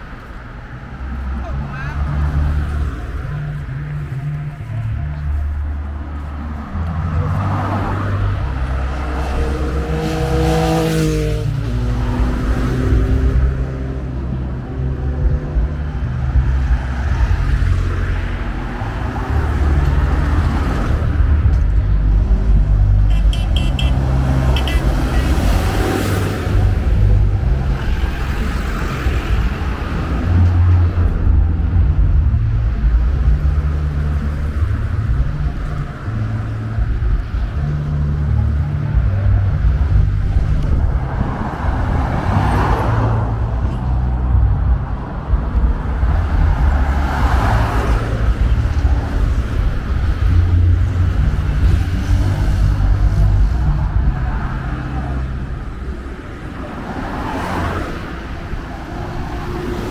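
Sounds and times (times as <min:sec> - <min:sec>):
cars passing by: 0:00.0 - 0:59.9
low traffic rumble: 0:00.0 - 0:59.9.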